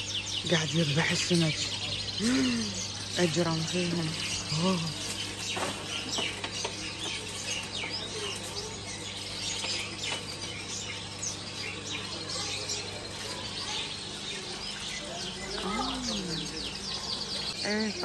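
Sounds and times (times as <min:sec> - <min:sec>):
small birds chirping and twittering: 0:00.0 - 0:18.0
steady low hum: 0:00.0 - 0:18.0.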